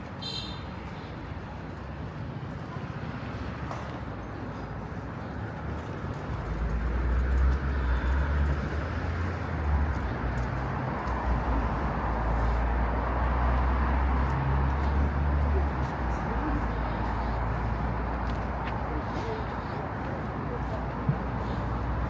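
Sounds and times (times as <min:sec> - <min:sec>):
road traffic noise: 0:00.0 - 0:22.0
heavy vehicle rumble: 0:00.7 - 0:22.0.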